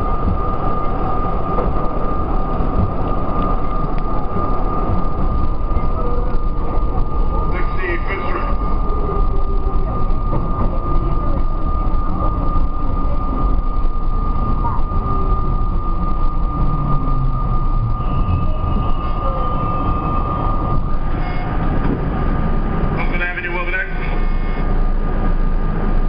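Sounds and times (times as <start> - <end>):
constant high whine: 0.0 - 26.0
subway wheels rumbling on rail: 0.0 - 26.0.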